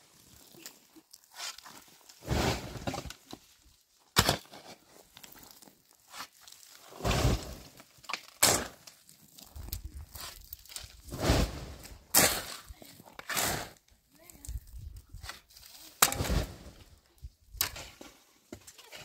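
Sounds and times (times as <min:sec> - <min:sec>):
shovel scraping gravelly earth: 0:00.0 - 0:14.5, 0:15.1 - 0:17.0, 0:17.6 - 0:19.0.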